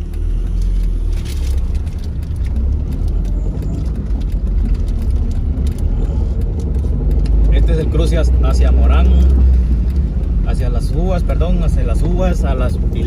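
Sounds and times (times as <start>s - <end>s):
engine and tyre rumble in car: 0.0s - 13.0s.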